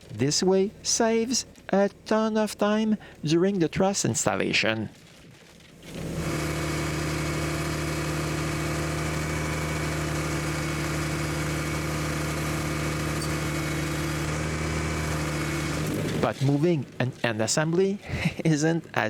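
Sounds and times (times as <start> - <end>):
crane engine running: 0.0 - 4.0, 5.7 - 19.0.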